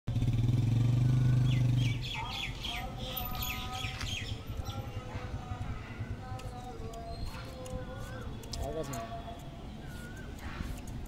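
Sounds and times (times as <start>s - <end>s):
outdoor background noise: 0.1s - 11.0s
birds chirping: 1.0s - 11.0s.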